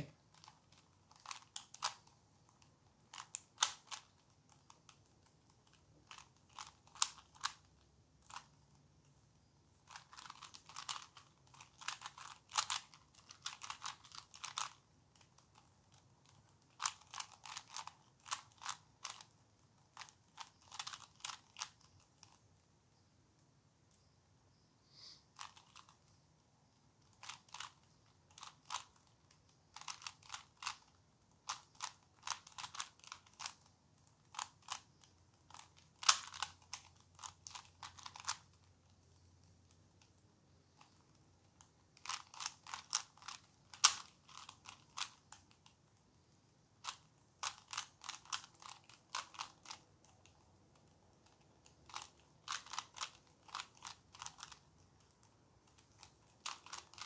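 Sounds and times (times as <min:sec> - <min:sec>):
puzzle cube turns clicking: 0:00.0 - 0:22.6, 0:25.3 - 0:26.1, 0:27.0 - 0:46.2, 0:46.8 - 0:57.0.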